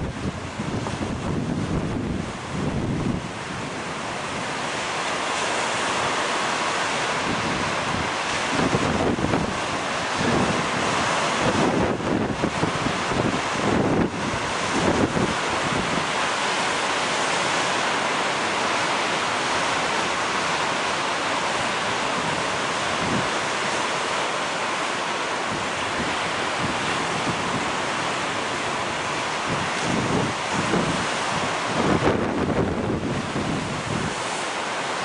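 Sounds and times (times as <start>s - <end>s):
ocean waves rushing: 0.0s - 35.0s.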